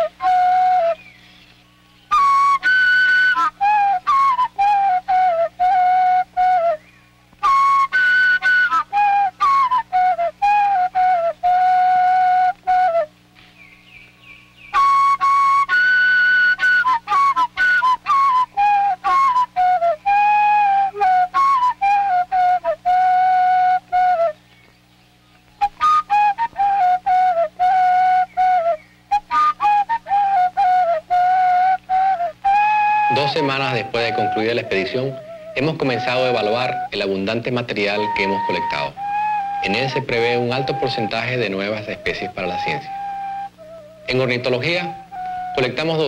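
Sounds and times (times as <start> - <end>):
solo flute melody: 0.0 - 1.2, 2.1 - 13.2, 14.6 - 24.4, 25.6 - 46.0
faint steady hum: 0.0 - 46.0.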